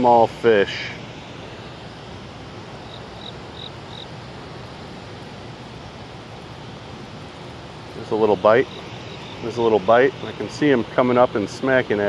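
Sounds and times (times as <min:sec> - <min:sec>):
rushing water below dam: 0:00.0 - 0:12.0.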